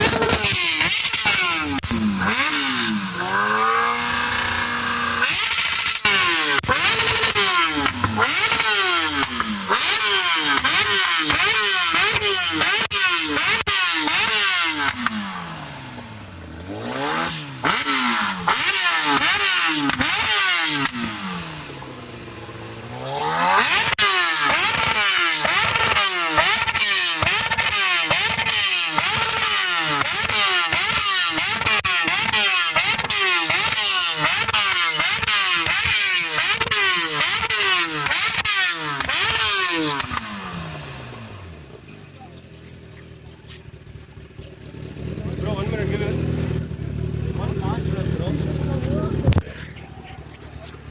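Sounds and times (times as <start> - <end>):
motorbikes revving past: 0.0 - 41.7, 42.6 - 50.9.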